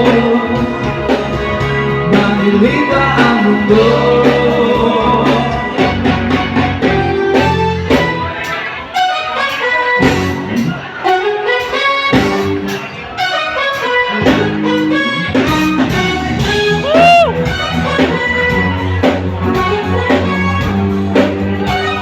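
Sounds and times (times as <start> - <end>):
steady drum beat: 0.0 - 8.6, 10.0 - 10.9, 12.1 - 12.9, 14.2 - 22.0
bass: 0.0 - 22.0
horn section: 0.0 - 22.0.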